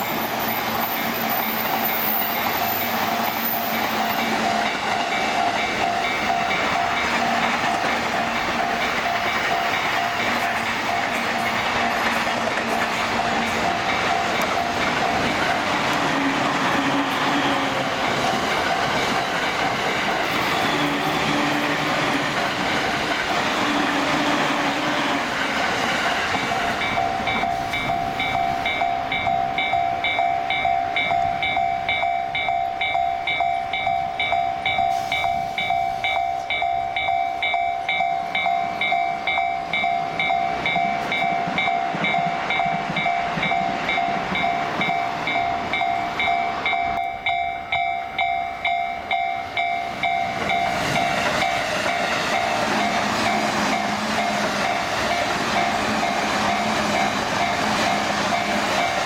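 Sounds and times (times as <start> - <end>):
level crossing bells ringing: 0.0 - 15.7, 26.1 - 59.0
train rumbling past: 0.0 - 59.0.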